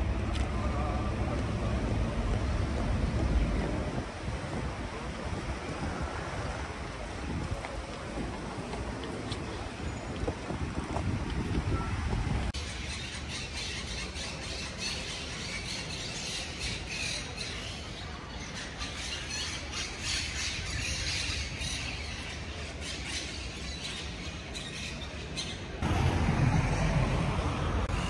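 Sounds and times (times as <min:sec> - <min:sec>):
low street rumble: 0:00.0 - 0:28.0.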